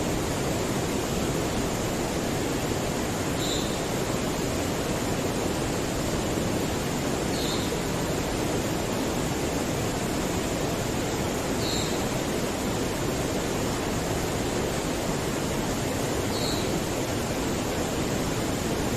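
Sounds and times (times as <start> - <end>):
river water rushing: 0.0 - 18.9.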